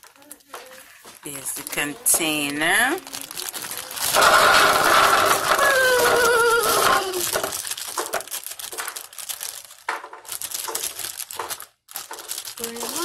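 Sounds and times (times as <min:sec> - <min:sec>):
plastic bag crinkling: 0:00.0 - 0:13.0
seeds clattering into container: 0:01.2 - 0:13.0.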